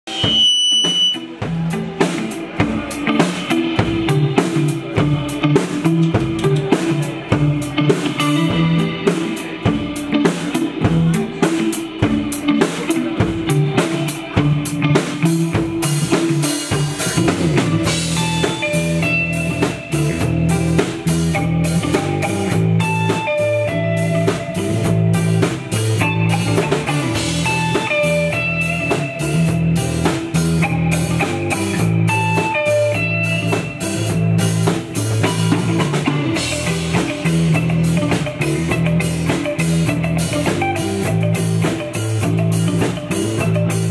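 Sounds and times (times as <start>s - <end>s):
live rock band playing: 0.0s - 43.9s
electric guitar melodic lines: 0.1s - 43.9s.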